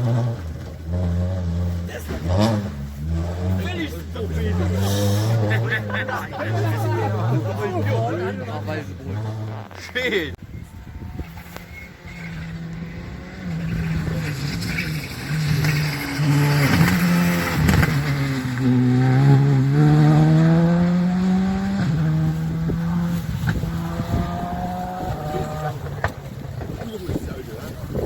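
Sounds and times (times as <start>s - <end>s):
rally car engine at full throttle: 0.0s - 28.0s.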